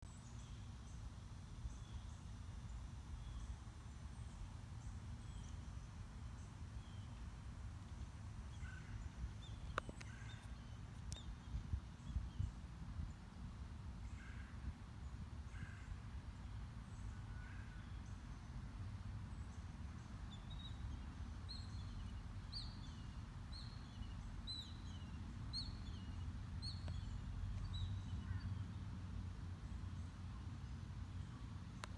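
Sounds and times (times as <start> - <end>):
low outdoor rumble: 0.1 - 31.9.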